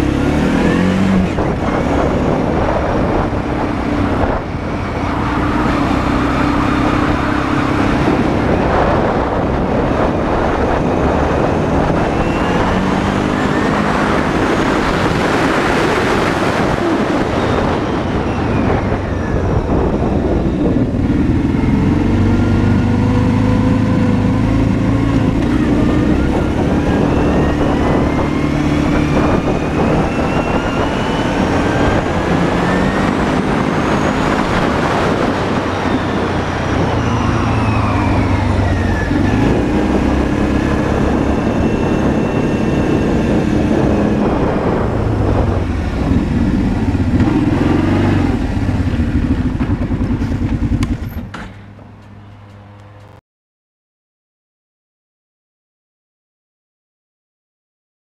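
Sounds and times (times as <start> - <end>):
wind noise on microphone: 0.0 - 51.4
atv engine revving: 0.0 - 51.6.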